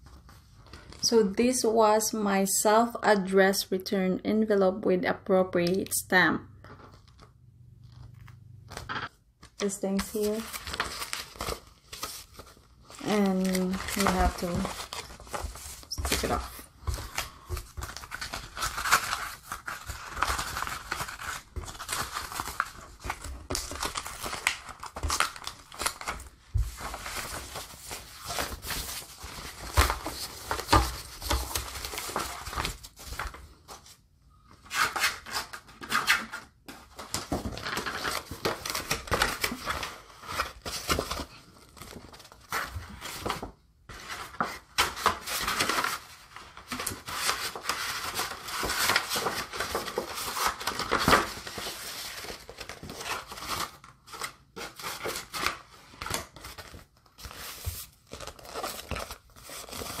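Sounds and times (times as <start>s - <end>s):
paper and envelope rustling: 6.8s - 60.0s.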